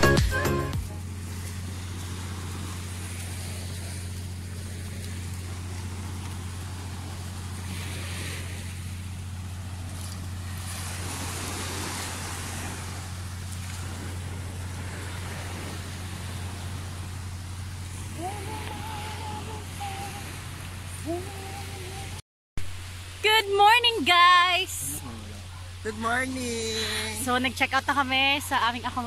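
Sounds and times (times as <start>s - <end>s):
low steady hum: 0.0s - 29.0s
small waves washing on shore: 0.9s - 29.0s.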